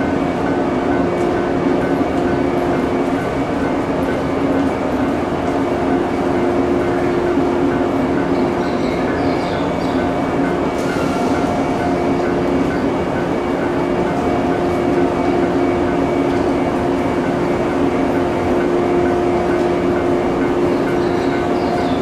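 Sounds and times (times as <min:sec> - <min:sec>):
idle electric train humming: 0:00.0 - 0:22.0.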